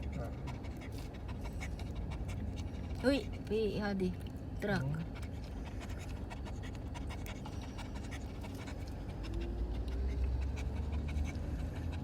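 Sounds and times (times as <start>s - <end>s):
car hum in motion: 0.0s - 12.0s
dog panting: 0.0s - 12.0s.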